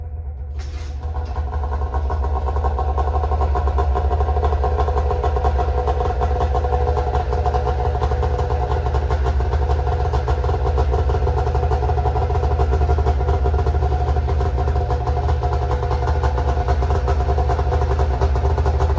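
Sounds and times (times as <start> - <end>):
snowmobile engine running: 0.7 - 18.9.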